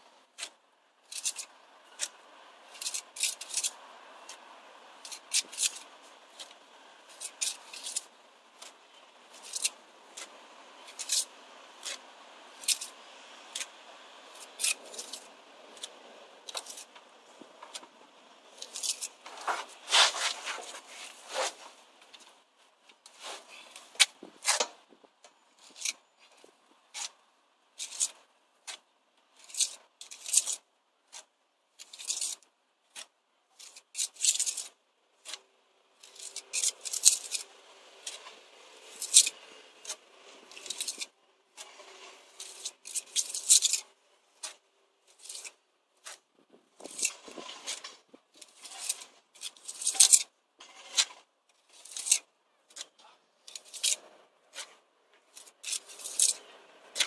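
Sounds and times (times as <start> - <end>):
trowel scraping mortar: 0.4 - 4.4, 5.0 - 12.0, 12.6 - 17.9, 18.5 - 22.4, 23.0 - 24.8, 25.6 - 27.2, 27.8 - 28.8, 29.4 - 32.4, 36.0 - 57.0.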